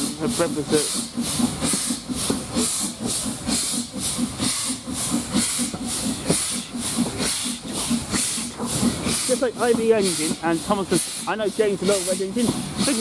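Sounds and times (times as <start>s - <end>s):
steam hissing: 0.0s - 13.0s
steam locomotive chuffing: 0.0s - 13.0s.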